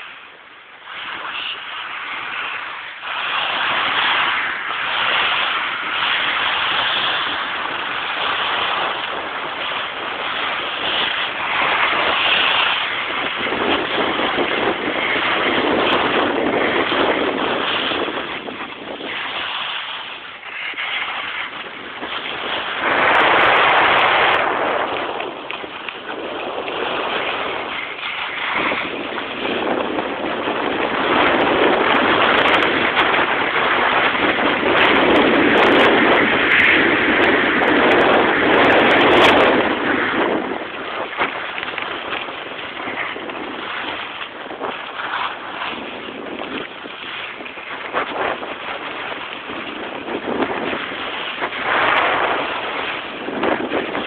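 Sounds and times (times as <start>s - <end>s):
snowboard carving over snow: 0.0s - 54.0s
wind buffeting microphone: 0.0s - 54.0s.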